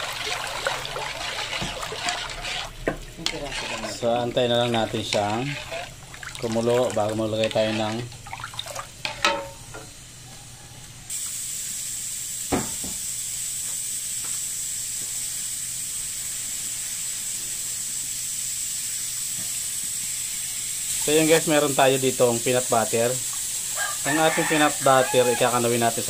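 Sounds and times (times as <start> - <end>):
sauce hissing in a pan: 0.0 - 8.2, 11.1 - 26.0.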